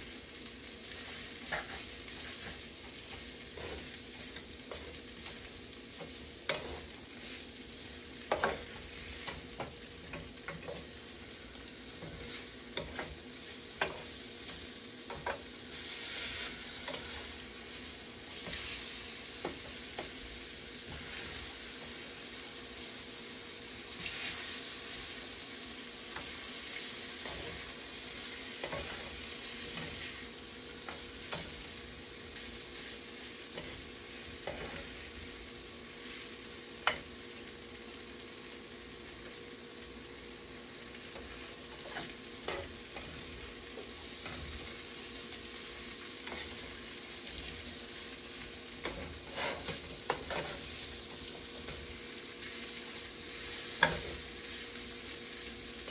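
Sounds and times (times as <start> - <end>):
noodles sizzling in a skillet: 0.0 - 55.9.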